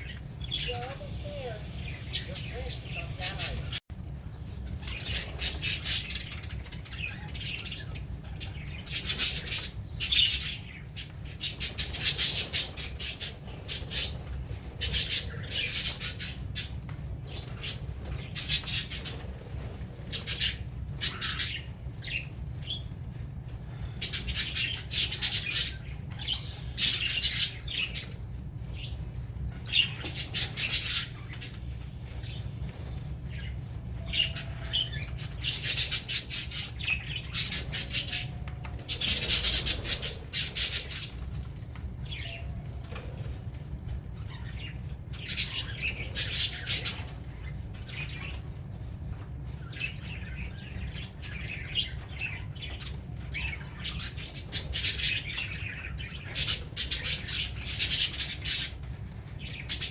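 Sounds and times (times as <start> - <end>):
budgerigars chattering and squawking: 0.0 - 3.8, 4.7 - 23.0, 23.6 - 43.3, 44.2 - 48.4, 49.6 - 59.9
steady low hum: 0.0 - 59.9.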